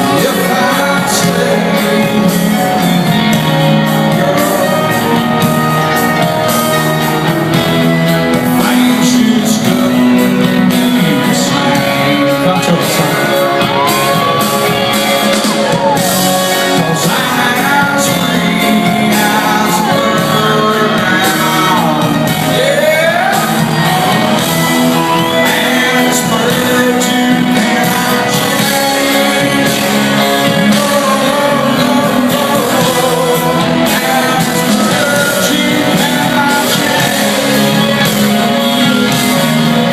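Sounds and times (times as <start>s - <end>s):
electric guitar: 0.0s - 39.9s
rock song singing: 0.0s - 39.9s.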